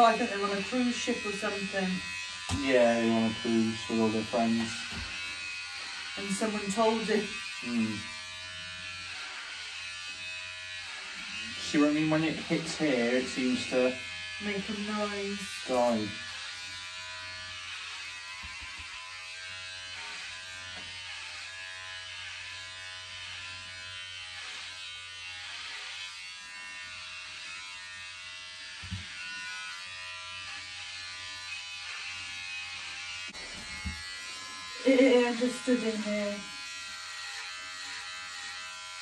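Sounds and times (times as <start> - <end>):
hair clippers buzzing: 0.0 - 39.0.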